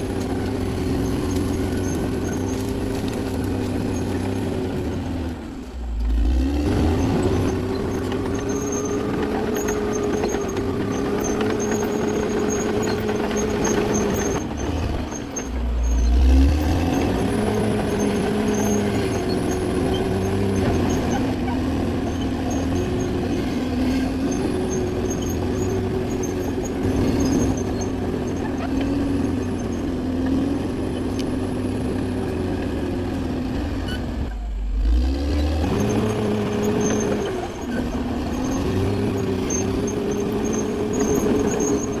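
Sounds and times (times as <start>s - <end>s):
bulldozer engine running: 0.0s - 42.0s.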